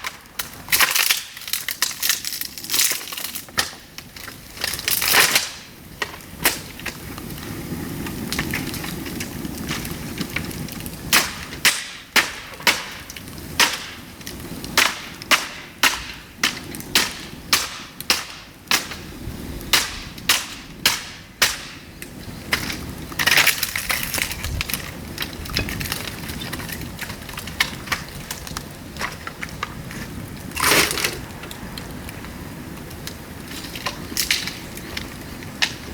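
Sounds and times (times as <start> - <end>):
dry bamboo cracking: 0.0 - 35.9.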